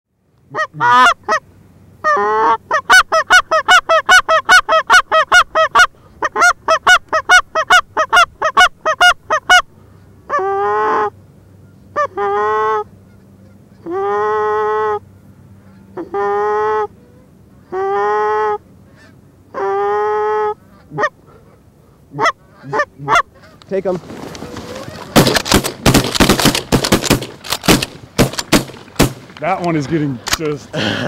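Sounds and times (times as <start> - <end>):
goose clucking and honking: 0.5 - 1.4, 2.0 - 9.7, 10.3 - 27.5.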